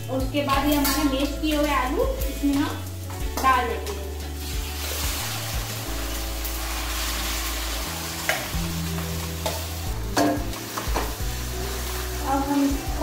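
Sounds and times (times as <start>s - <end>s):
potatoes sizzling in hot oil: 0.0s - 13.0s.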